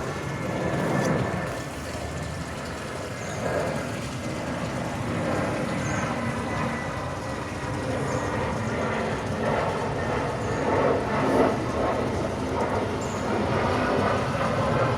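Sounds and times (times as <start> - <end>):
jet engines running: 0.0 - 14.9.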